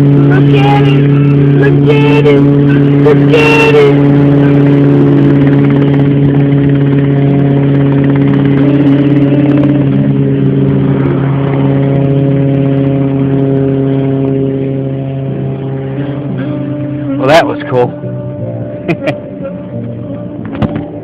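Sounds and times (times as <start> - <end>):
helicopter engine and rotors droning: 0.0 - 21.0.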